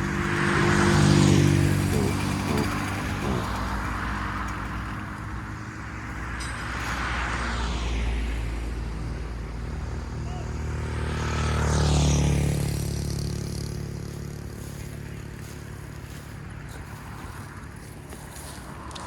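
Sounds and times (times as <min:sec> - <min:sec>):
motor vehicle passing by: 0:00.0 - 0:19.0.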